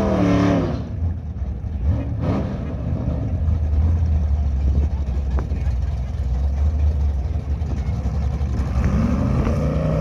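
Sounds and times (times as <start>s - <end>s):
car engines idling: 0.7s - 10.0s.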